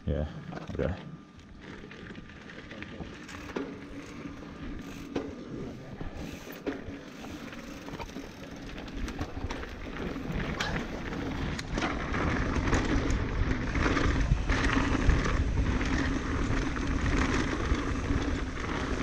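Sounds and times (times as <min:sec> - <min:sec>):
bike clicks and rattles: 0:00.4 - 0:19.0
bike tyres rumbling on dirt: 0:00.8 - 0:19.0.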